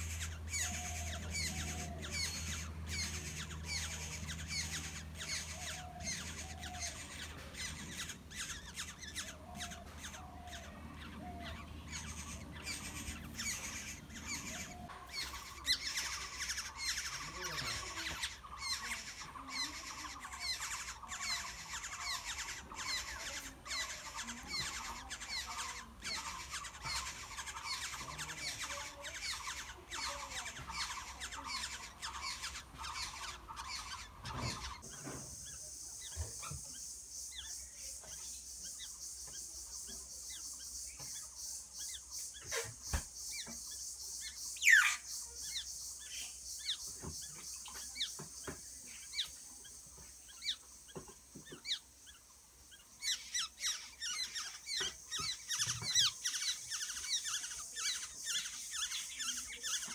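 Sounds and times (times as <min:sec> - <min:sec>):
sweeping bird call: 0:00.0 - 0:50.7, 0:51.5 - 0:59.9
nestlings begging chirps: 0:00.0 - 0:59.9.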